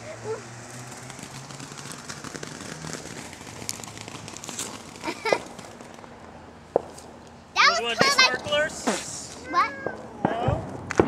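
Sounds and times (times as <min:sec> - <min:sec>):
firework fountain hissing and crackling: 0:00.0 - 0:11.0.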